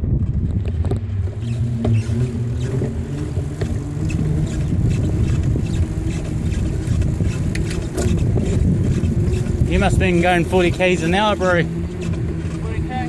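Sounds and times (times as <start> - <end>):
bicycle rolling noise: 0.0 - 13.0
wind rumbling on microphone: 0.0 - 13.0.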